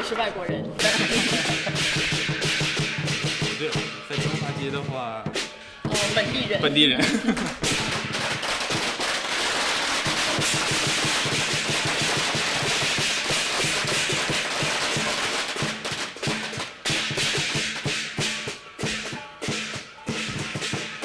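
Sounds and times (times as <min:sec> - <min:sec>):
drum beaten fast: 0:00.0 - 0:21.0.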